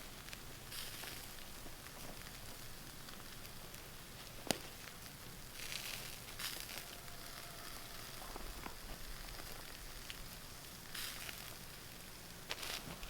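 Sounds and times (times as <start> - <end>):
fire pops and crackles: 0.0 - 13.0
food sizzling over fire: 0.0 - 13.0.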